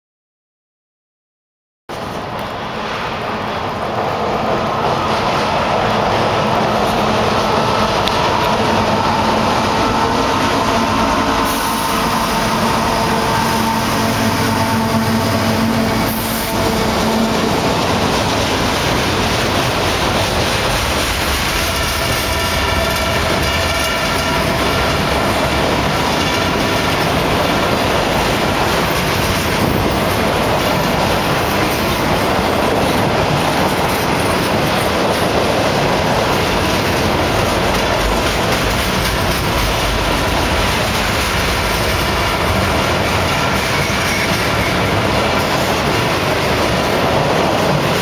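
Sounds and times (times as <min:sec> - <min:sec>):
diesel locomotive engines droning: 0:01.9 - 0:48.0
train wheels on rails: 0:01.9 - 0:48.0.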